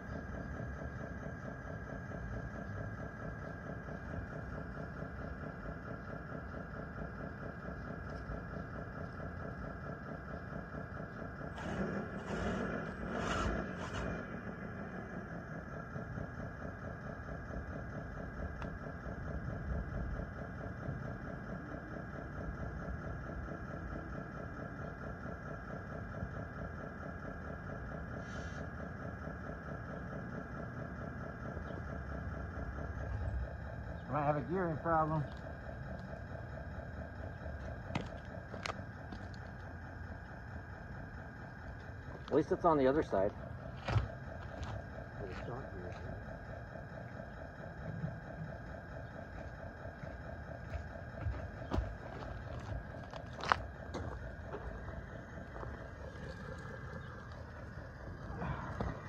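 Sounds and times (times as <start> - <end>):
toy bulldozer engine idling: 0.0 - 59.0.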